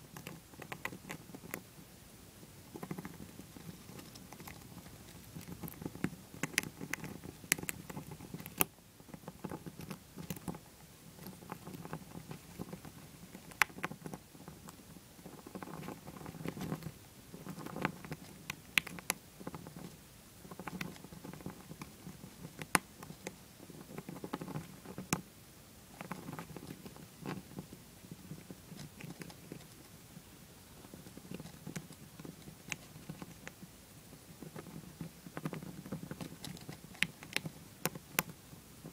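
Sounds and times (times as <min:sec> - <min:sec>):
hamster chewing peanut: 0:00.0 - 0:38.9.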